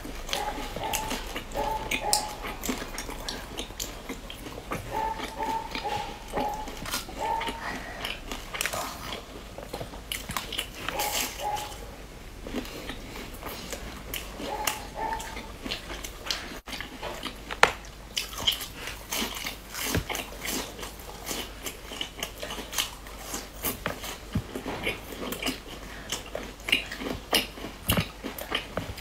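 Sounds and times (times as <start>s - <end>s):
crunchy cookies being chewed: 0.0s - 29.0s.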